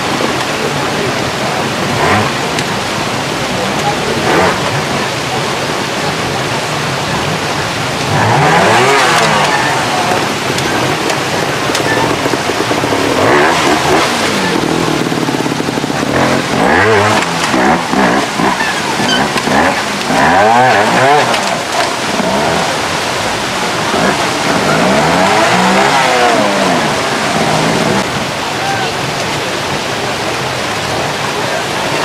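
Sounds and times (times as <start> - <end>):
motorcycle engine revving: 0.0 - 32.0
stream rushing over rocks: 0.0 - 32.0.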